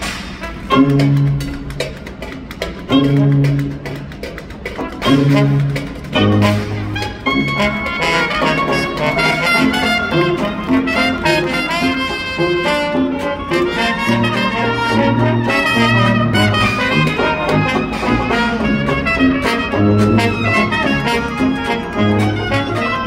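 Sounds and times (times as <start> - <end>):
trumpet trombone and clarinet melody: 0.0 - 2.0, 2.8 - 23.0
washboard beat: 0.0 - 23.0
banjo and guitar strumming: 2.8 - 23.0.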